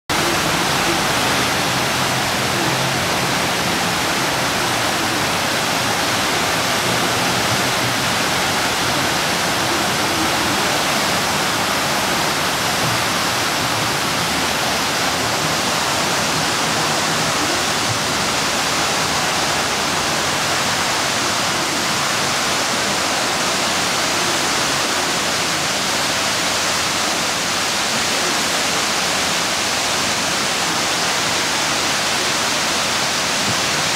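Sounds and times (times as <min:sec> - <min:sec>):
water cascading over waterfall: 0:00.1 - 0:33.9.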